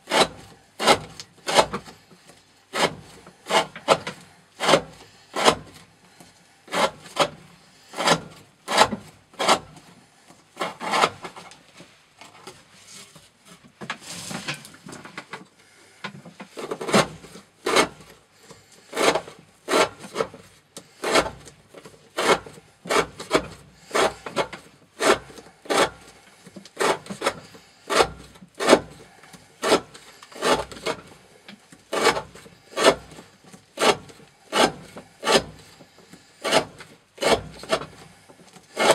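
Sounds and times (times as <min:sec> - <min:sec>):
knife cutting rope: 0:00.0 - 0:05.8, 0:06.7 - 0:09.9, 0:16.6 - 0:38.9.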